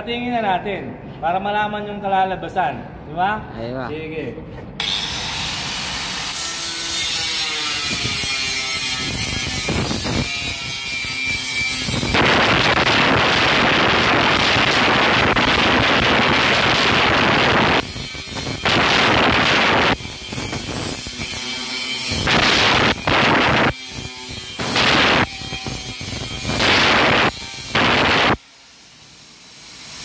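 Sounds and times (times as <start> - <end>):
grinder cutting steel: 4.8 - 30.0.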